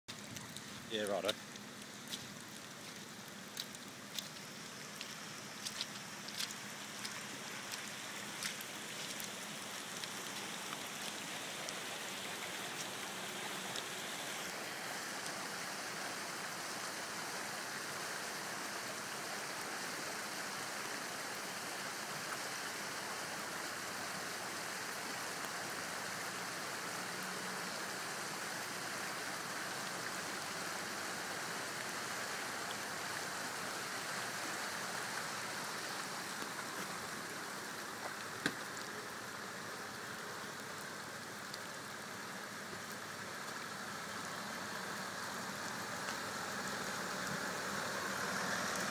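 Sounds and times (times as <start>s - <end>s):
rain falling on foliage: 0.1s - 48.9s.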